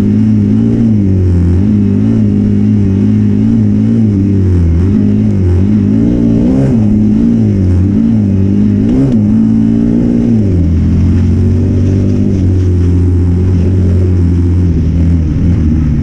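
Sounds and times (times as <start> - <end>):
motorcycle engine pulling: 1.4 - 16.0.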